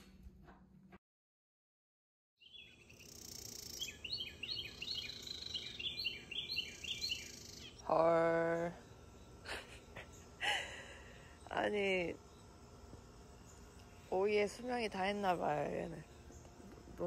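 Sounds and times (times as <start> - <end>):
songbird chirping: 2.4 - 10.4, 11.1 - 17.0.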